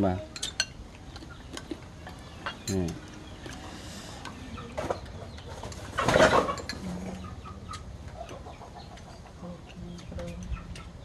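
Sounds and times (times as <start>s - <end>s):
chickens clucking: 0.8s - 11.0s.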